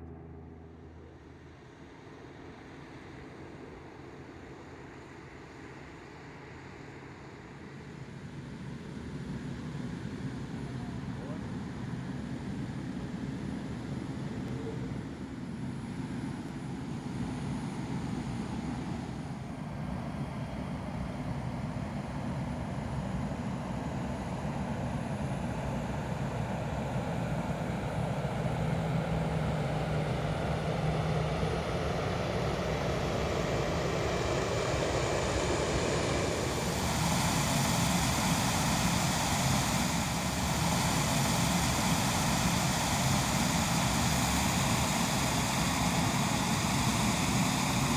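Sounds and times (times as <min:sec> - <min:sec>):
airplane engine noise: 0:00.0 - 0:47.9.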